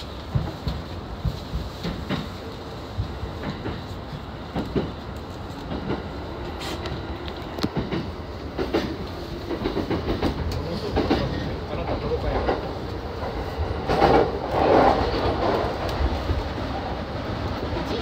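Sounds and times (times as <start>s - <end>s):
train running rumble: 0.0s - 18.0s
train wheels clicking over rail joints: 0.0s - 18.0s.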